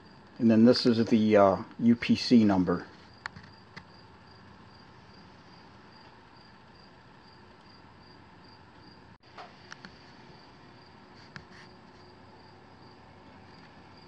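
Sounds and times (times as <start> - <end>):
low steady background: 0.0 - 14.0.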